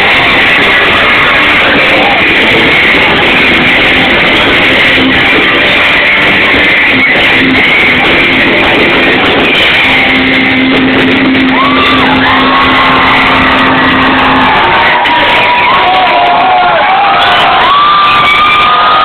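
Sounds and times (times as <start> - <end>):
rock band playing live: 0.0 - 18.6.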